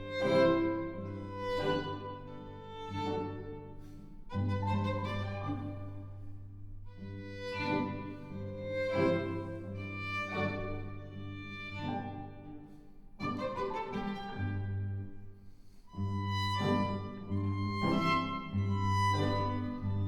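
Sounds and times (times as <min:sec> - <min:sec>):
cello: 0:00.0 - 0:20.0
violin: 0:00.0 - 0:20.0.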